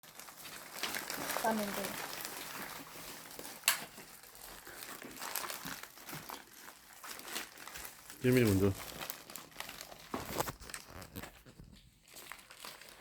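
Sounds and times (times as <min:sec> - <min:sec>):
paper packaging crinkling: 0:00.0 - 0:13.0.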